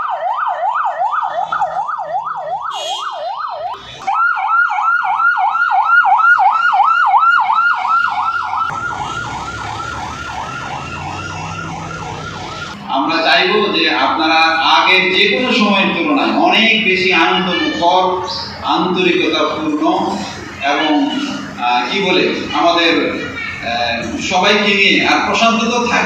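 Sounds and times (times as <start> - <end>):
engine and road noise: 0.0 - 26.0
police siren yelping: 0.0 - 26.0.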